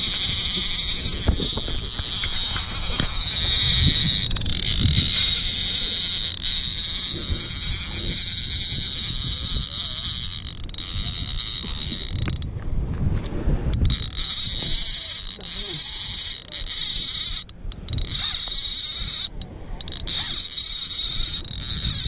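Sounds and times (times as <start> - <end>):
fishing reel drag buzzing: 0.0 - 12.5, 13.7 - 22.0
wind rumble on microphone: 0.0 - 22.0.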